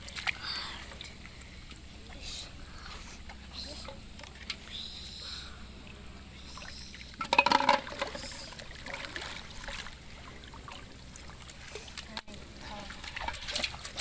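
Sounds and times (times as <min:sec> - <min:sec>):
splashing and rattling: 0:00.0 - 0:14.0
water trickling and sloshing: 0:00.0 - 0:14.0.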